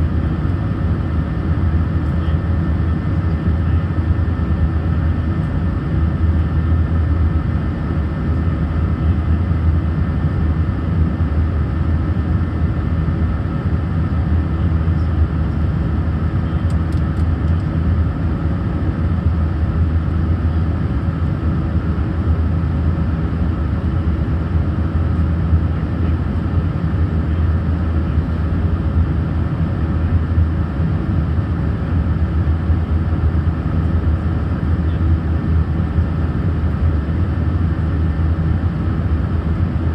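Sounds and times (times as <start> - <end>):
aircraft engine drone: 0.0 - 39.9
airflow roar: 0.0 - 39.9.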